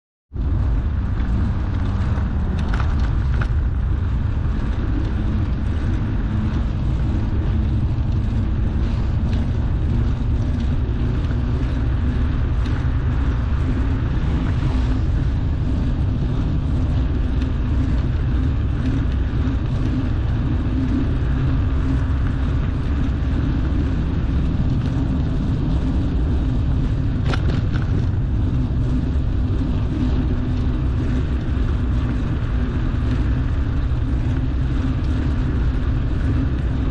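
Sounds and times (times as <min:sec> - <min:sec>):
bicycle tyres rolling on asphalt: 0:00.3 - 0:36.9
wind rumble on microphone: 0:00.3 - 0:36.9.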